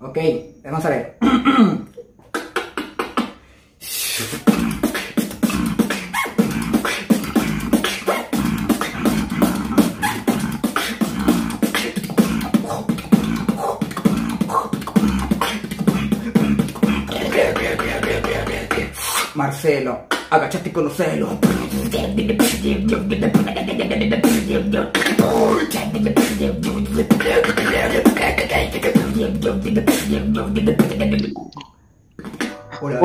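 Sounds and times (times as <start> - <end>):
beatboxing: 1.2 - 32.6
mouth clicks: 1.8 - 19.4, 20.1 - 20.4, 21.4 - 32.6.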